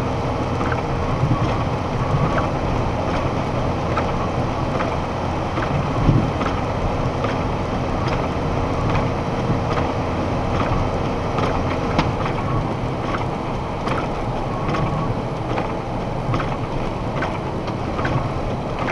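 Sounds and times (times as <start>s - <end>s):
truck engine and road noise: 0.0s - 18.9s.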